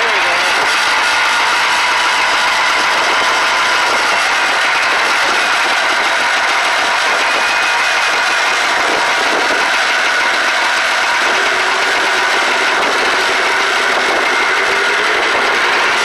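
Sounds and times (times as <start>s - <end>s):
snowmobile engine idling: 0.0s - 16.0s.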